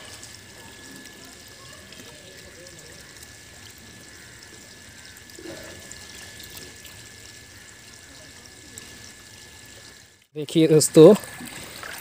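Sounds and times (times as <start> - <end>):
water pouring into a tank: 0.0 - 12.0.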